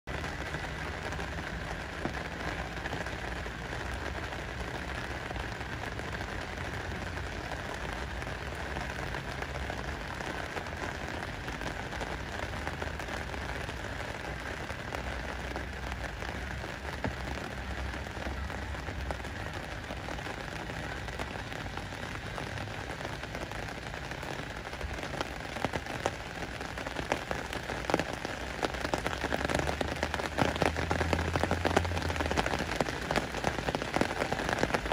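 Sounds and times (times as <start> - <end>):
rain falling on water: 0.0 - 34.9.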